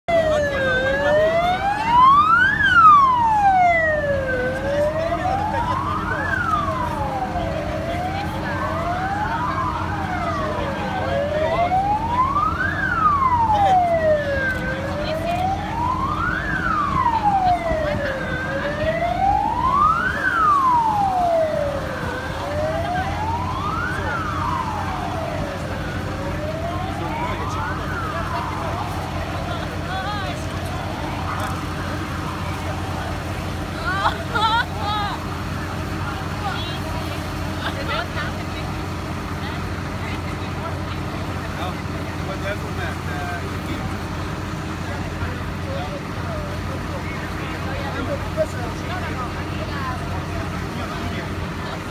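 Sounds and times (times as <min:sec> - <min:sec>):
emergency vehicle siren wailing: 0:00.0 - 0:51.9
low steady rumble: 0:00.1 - 0:51.9.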